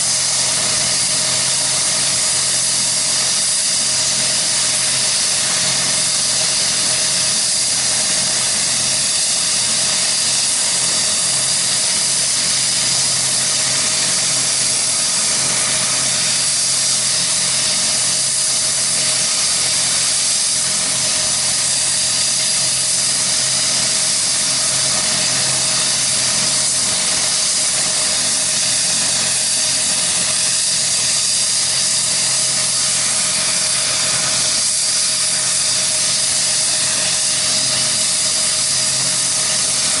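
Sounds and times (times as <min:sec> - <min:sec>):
helicopter turbine whine: 0:00.0 - 0:40.0.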